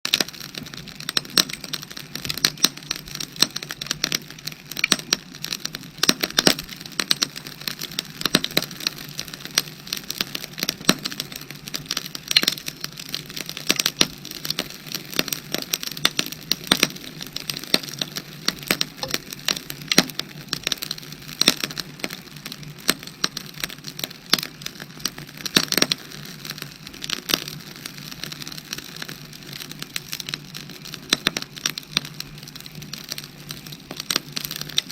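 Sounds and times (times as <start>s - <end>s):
firewood crackling and popping: 0.1s - 34.9s.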